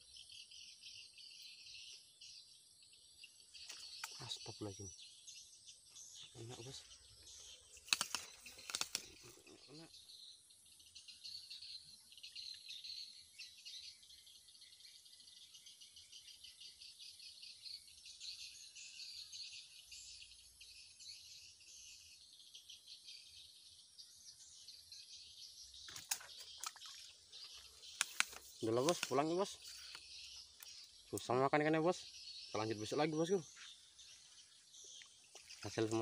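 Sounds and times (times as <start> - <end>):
birds calling: 0.0 - 36.0
insects chirping and trilling: 0.0 - 36.0.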